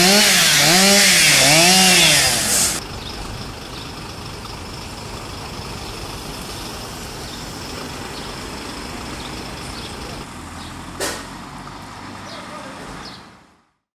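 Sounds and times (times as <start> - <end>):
diesel engine idling: 0.0 - 13.2.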